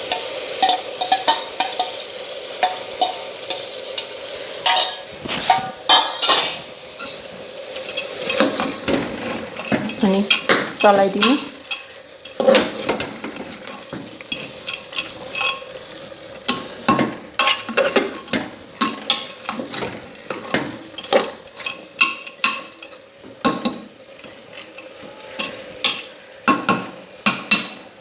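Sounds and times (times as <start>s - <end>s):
spoon scraping and clinking pot: 0.0s - 7.2s, 7.8s - 10.5s, 11.2s - 15.8s, 16.5s - 26.1s
faint sizzle: 0.0s - 28.0s.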